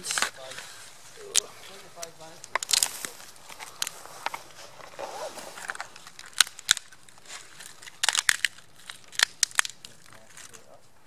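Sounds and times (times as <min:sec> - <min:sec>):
dry twigs snapping: 0:00.0 - 0:11.0.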